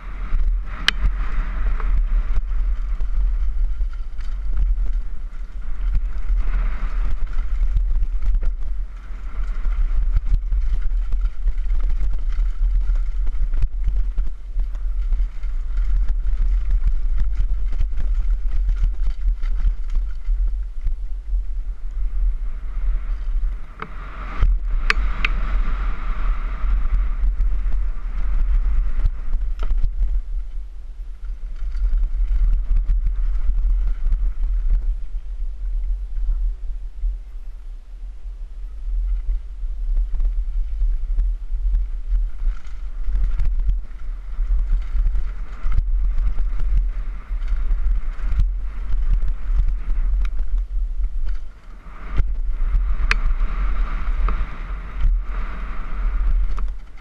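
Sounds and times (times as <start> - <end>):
bike clattering on rough trail: 0.0 - 36.5, 38.9 - 57.0
wind buffeting microphone: 0.0 - 57.0.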